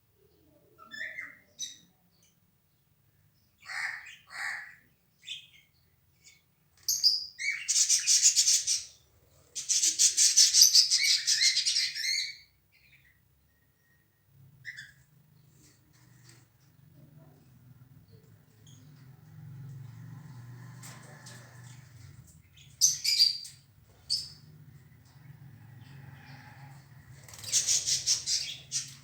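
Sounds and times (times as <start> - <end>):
lovebirds chirping and chattering: 0.3 - 2.8, 3.4 - 29.0.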